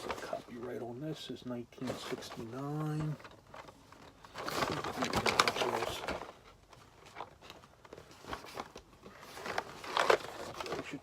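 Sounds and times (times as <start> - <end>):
cardboard packaging rustling: 0.0 - 1.2, 1.8 - 11.0.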